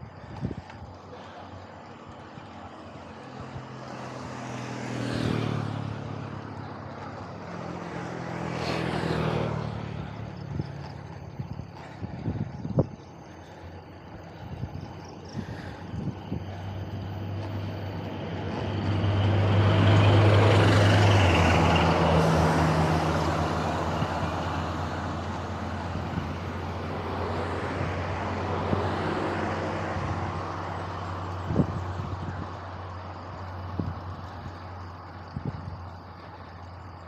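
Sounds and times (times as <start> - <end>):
vehicle engine hum: 0.0 - 37.0.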